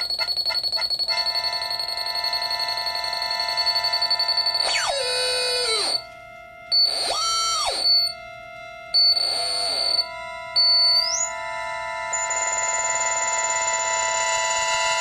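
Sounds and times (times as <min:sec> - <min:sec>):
ringing tones held steady: 0:00.0 - 0:06.1, 0:06.7 - 0:08.3, 0:08.9 - 0:15.0.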